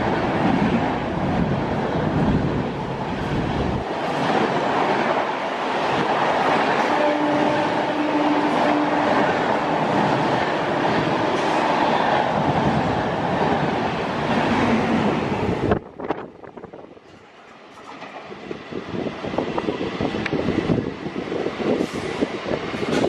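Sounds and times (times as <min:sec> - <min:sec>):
train coaches rushing past: 0:00.0 - 0:16.2, 0:16.9 - 0:23.0
rail clatter: 0:00.0 - 0:23.0.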